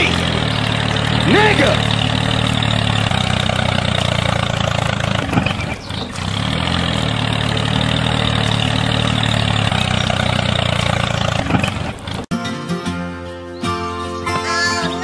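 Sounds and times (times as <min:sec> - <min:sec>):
tractor engine running: 0:00.0 - 0:12.3.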